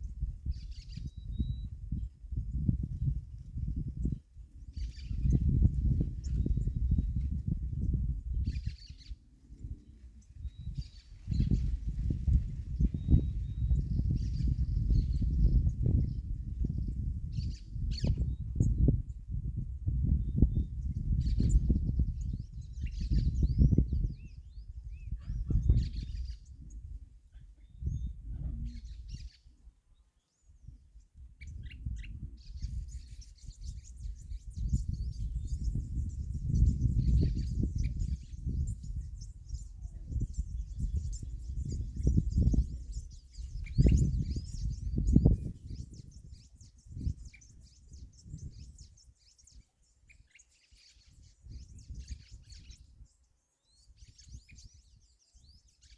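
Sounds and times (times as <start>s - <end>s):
low gusty rumble: 0.0s - 8.8s, 9.6s - 29.1s, 32.2s - 48.9s
songbirds chirping and trilling: 0.0s - 55.9s.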